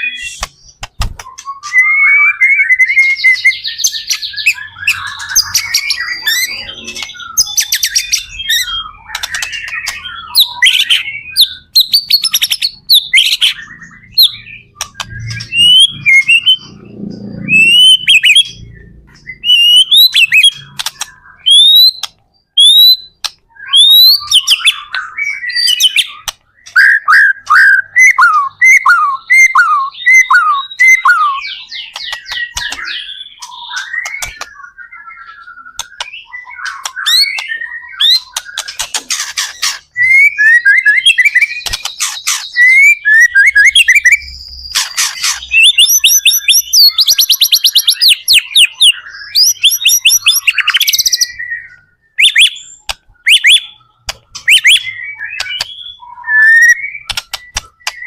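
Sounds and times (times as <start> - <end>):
songbird whistling and trilling: 0.0 - 58.0.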